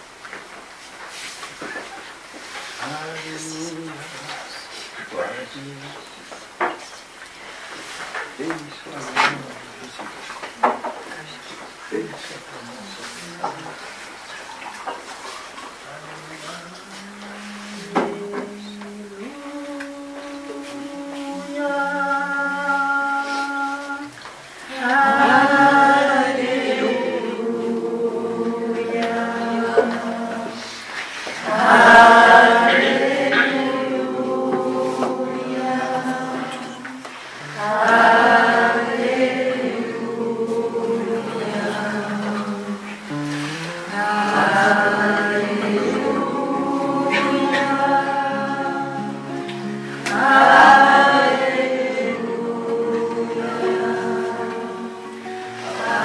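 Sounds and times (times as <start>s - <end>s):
slow worship singing: 1.1s - 56.0s.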